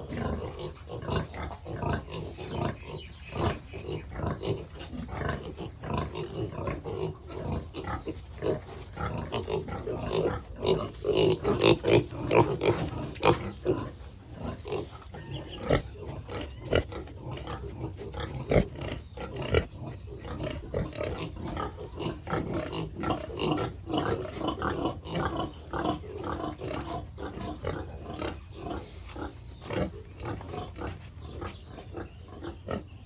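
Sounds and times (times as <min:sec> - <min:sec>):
pigs grunting: 0:00.0 - 0:33.0.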